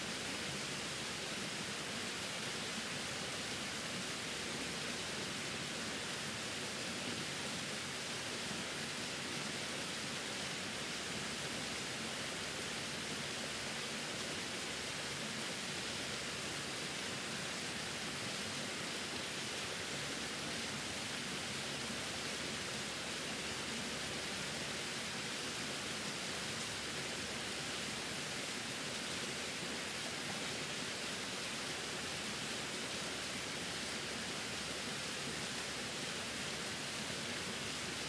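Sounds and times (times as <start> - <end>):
small waterfall rushing: 0.0 - 38.0.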